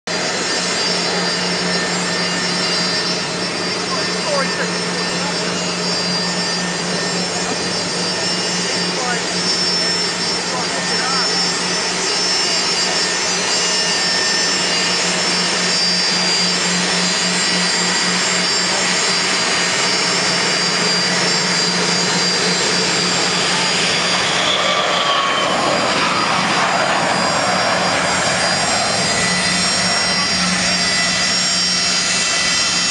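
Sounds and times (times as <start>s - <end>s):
jet engines with high whine: 0.0s - 32.9s.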